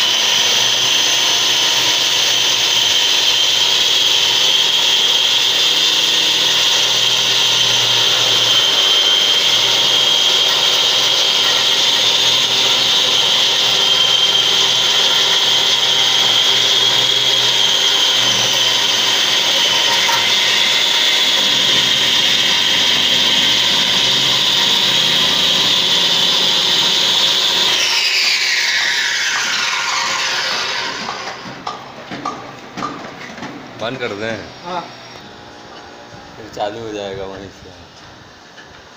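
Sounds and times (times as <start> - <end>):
blade grinding concrete: 0.0 - 31.6
wall chaser motor whine: 0.0 - 38.9.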